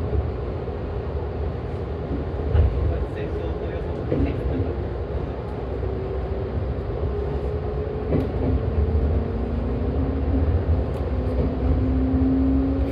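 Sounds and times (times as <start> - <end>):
electric train rumbling: 0.0 - 12.9.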